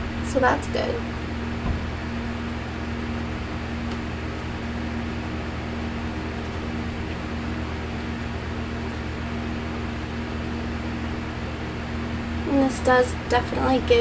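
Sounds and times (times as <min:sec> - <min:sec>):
room noise hum and hiss: 0:00.0 - 0:14.0.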